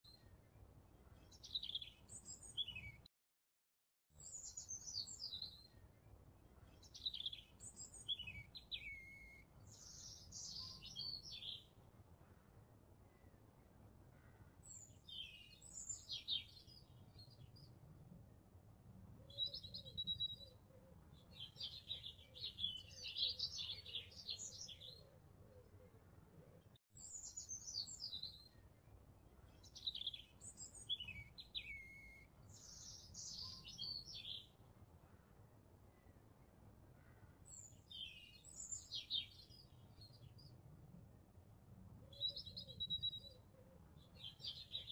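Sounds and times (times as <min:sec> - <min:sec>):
small birds chirping: 0:00.1 - 0:03.0, 0:04.2 - 0:11.8, 0:13.1 - 0:17.8, 0:19.2 - 0:36.3, 0:37.0 - 0:40.6, 0:42.1 - 0:44.9.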